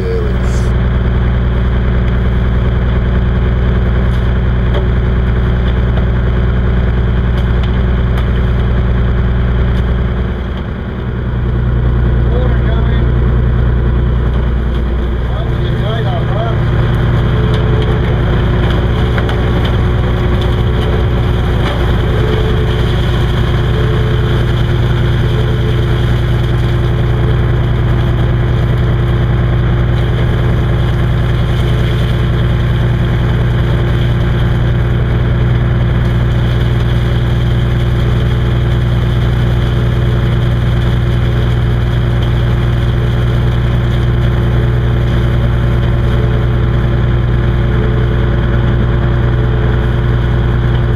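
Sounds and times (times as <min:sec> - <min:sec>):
boat engine running steadily: 0:00.0 - 0:50.9.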